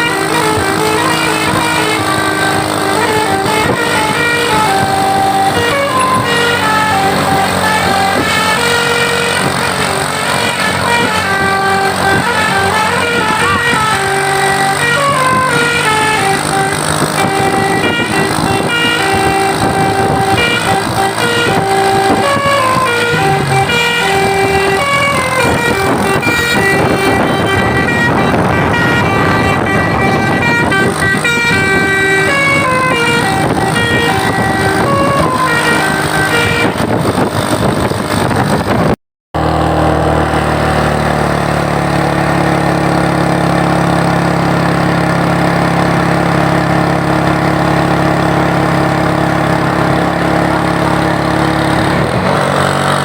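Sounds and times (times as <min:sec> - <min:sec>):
bus horn playing a tune: 0:00.0 - 0:53.0
vehicle drone: 0:00.0 - 0:53.0.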